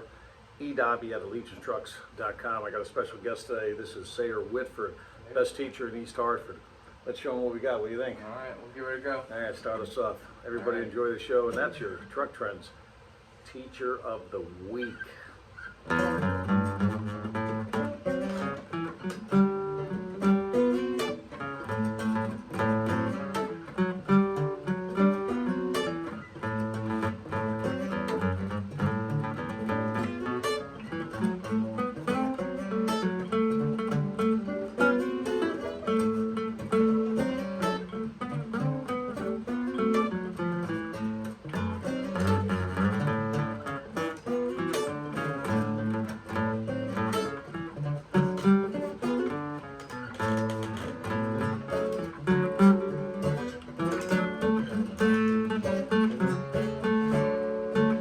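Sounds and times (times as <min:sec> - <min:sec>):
acoustic guitar playing: 0:00.0 - 0:12.6, 0:14.0 - 0:58.0.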